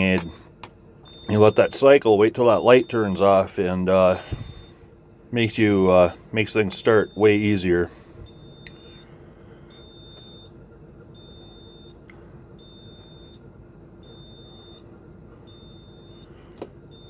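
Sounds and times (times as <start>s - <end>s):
faint steady hum: 0.0s - 17.0s
high warning beeps: 1.0s - 9.1s, 9.7s - 12.0s, 12.6s - 17.0s.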